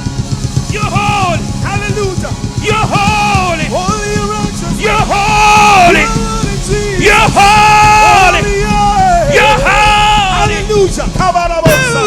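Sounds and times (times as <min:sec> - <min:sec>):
band with drums and bass: 0:00.0 - 0:12.0
voices singing held notes: 0:00.0 - 0:12.0.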